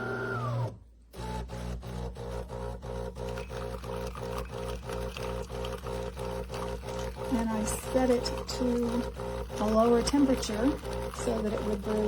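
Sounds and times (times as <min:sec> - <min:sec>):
espresso machine pump buzzing: 0:00.0 - 0:12.0.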